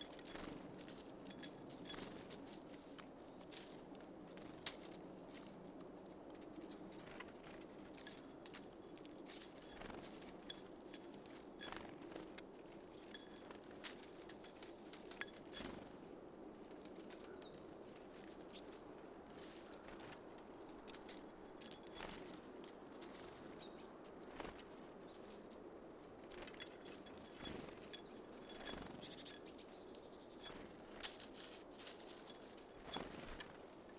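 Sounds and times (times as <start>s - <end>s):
birds pecking and landing: 0.0s - 2.5s, 6.2s - 23.6s, 24.2s - 25.5s, 26.2s - 33.9s.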